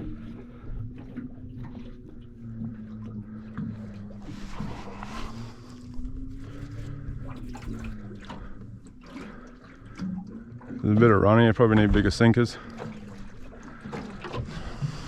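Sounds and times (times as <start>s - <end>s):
boat engine idling: 0.0s - 15.0s
water sloshing against hull: 0.0s - 15.0s.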